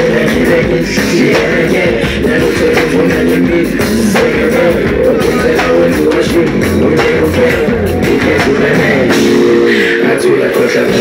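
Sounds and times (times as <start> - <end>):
drum kit: 0.0 - 11.0.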